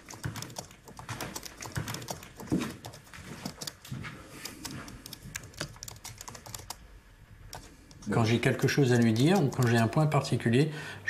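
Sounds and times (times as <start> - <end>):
laptop keyboard typing: 0.0 - 10.1.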